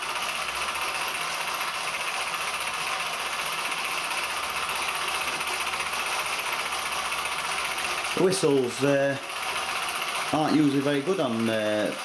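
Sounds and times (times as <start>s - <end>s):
toy steam engine ticking clatter: 0.0s - 12.0s.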